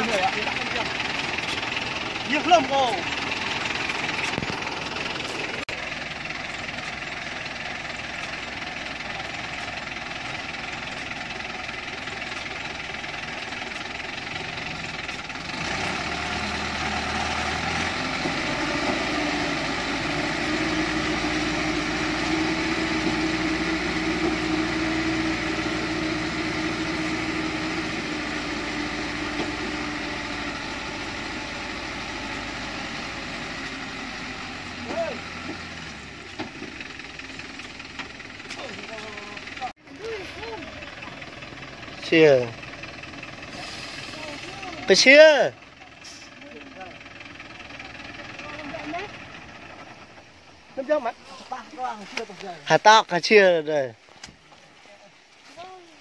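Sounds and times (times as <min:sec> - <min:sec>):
diesel truck engine clattering: 0:00.0 - 0:51.2.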